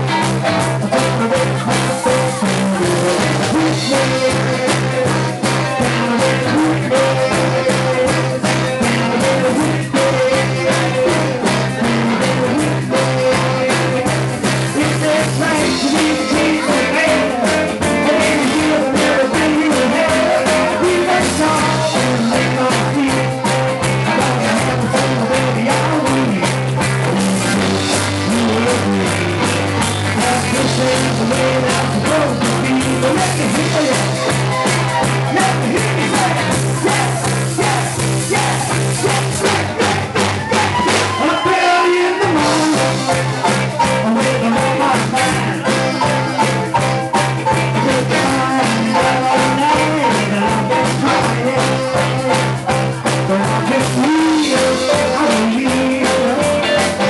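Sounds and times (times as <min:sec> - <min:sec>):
person singing: 0:00.0 - 0:57.0
soul band playing live: 0:00.0 - 0:57.0.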